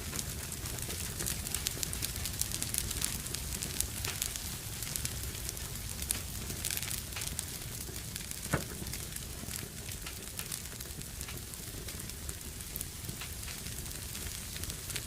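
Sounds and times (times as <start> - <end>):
fire crackling: 0.0 - 15.0
fire popping: 0.0 - 15.0.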